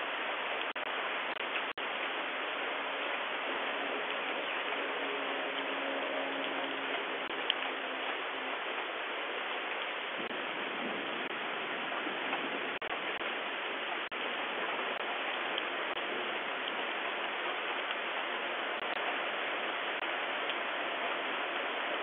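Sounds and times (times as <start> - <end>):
rain hissing: 0.0 - 22.0
raindrop patter: 0.0 - 22.0.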